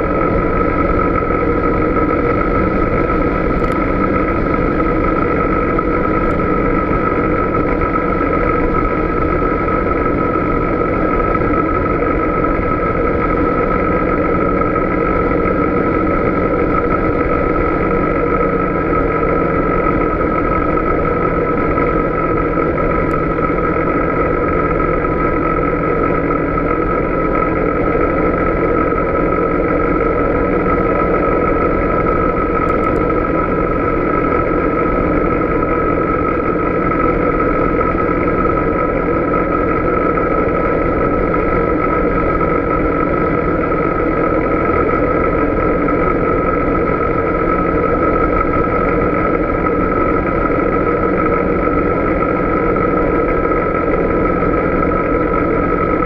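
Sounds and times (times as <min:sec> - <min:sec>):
atv engine running: 0:00.0 - 0:56.0
steady whine: 0:00.0 - 0:56.0.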